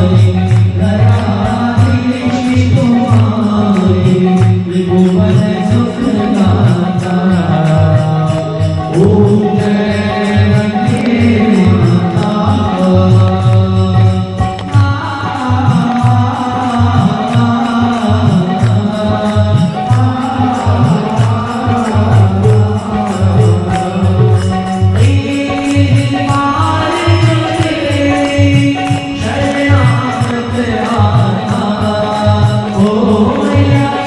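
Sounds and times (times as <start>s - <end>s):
devotional chant singing: 0.0s - 34.0s
steady drum beat: 0.0s - 34.0s.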